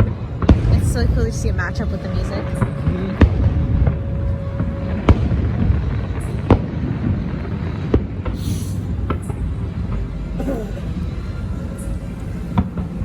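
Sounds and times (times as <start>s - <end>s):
distant fireworks bangs: 0.0s - 11.2s
steady low rumble: 0.0s - 13.0s.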